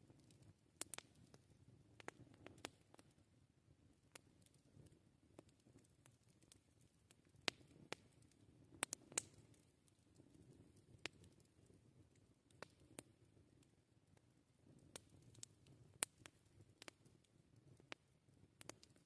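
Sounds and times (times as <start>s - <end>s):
campfire crackling: 0.0s - 19.0s
low rumble of fire: 0.0s - 19.0s.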